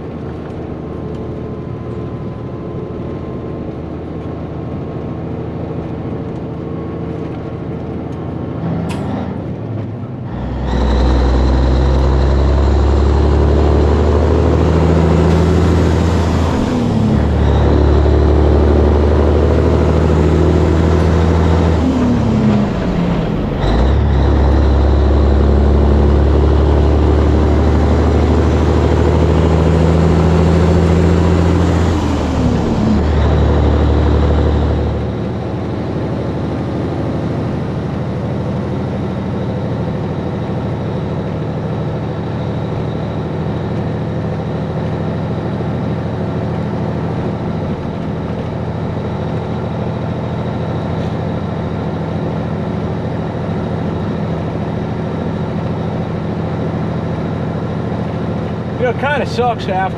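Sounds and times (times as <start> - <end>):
diesel truck engine under load: 0.0 - 59.9
road noise: 0.0 - 59.9.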